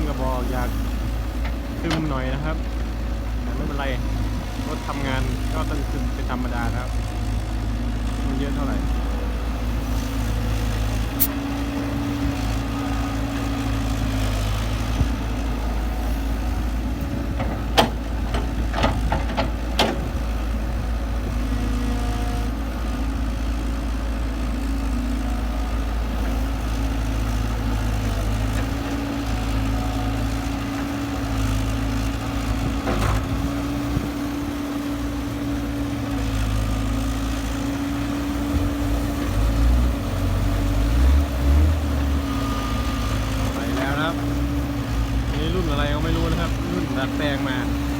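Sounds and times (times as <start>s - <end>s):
excavator diesel engine running: 0.0s - 47.9s
hydraulics humming: 0.0s - 47.9s.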